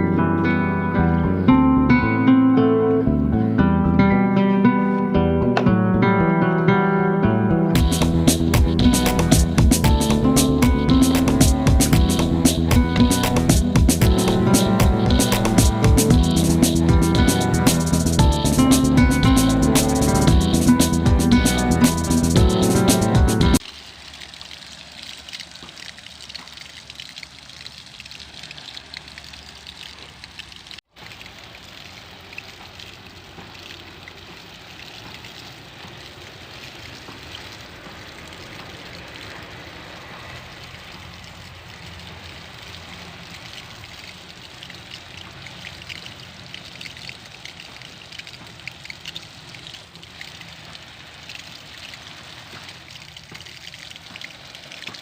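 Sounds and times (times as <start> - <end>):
sprinkler spraying water: 7.8 - 55.0.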